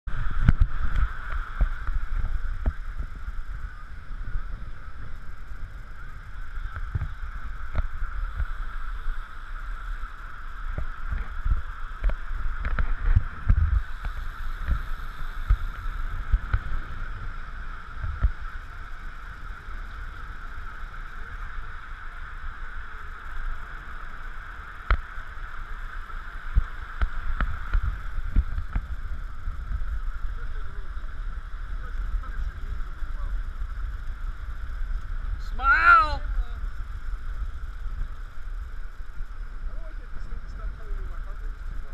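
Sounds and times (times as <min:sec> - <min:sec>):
road rumble: 0:00.0 - 0:41.9
wind buffeting: 0:00.0 - 0:41.9
steady high hum: 0:00.1 - 0:41.9.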